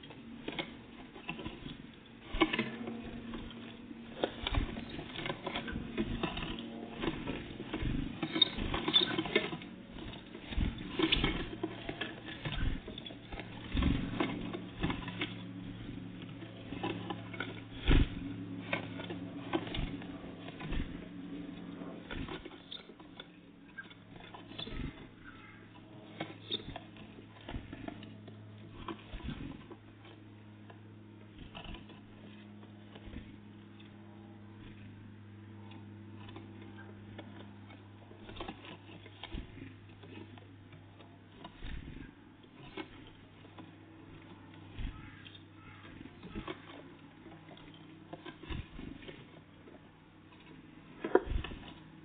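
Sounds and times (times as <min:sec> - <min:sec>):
birds pecking and landing: 0:00.0 - 0:52.0
steady low hum: 0:00.0 - 0:52.0.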